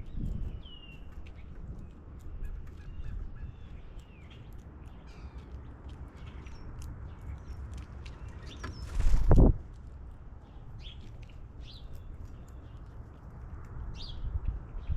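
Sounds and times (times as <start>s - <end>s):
birds chirping: 0.0s - 9.3s, 10.1s - 14.9s
steady low rumble: 0.0s - 14.9s.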